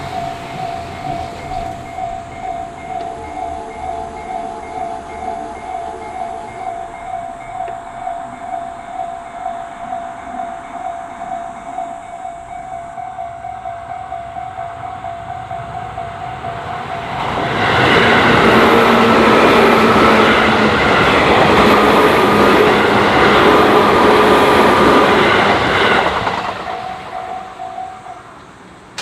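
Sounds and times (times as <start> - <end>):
electric train passing: 0.0 - 29.0
level crossing warning bell: 0.0 - 29.0.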